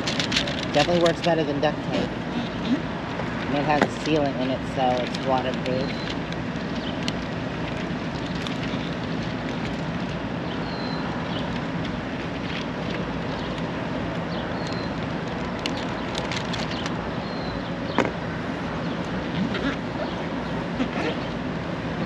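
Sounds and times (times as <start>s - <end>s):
outdoor rumble: 0.0s - 22.0s.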